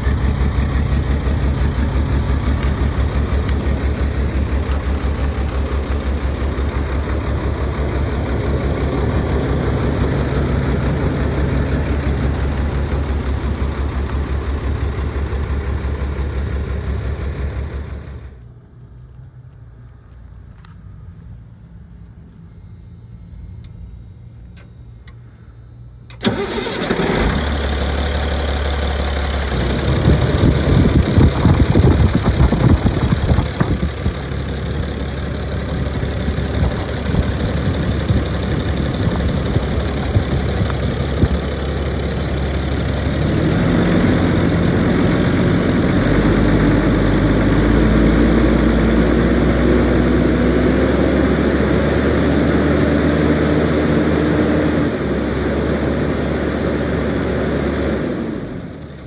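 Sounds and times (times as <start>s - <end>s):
truck engine starting: 0.0s - 18.6s, 23.4s - 59.0s
diesel truck engine idling: 0.0s - 19.1s, 25.2s - 59.0s.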